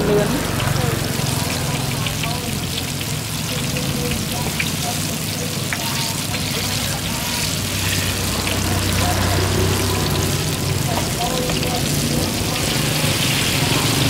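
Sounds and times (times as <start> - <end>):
deep-frying sizzle: 0.0 - 14.0.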